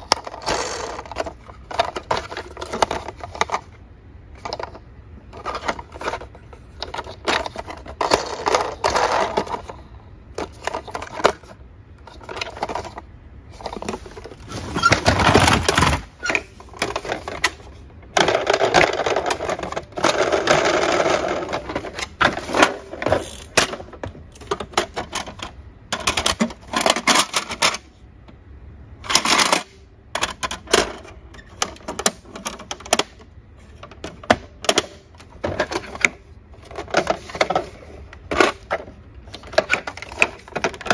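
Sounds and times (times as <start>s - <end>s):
plastic toys rattling in box: 0.0s - 3.8s, 4.4s - 27.8s, 29.1s - 40.9s
plastic toys clicking and knocking: 0.0s - 28.4s, 29.0s - 40.9s.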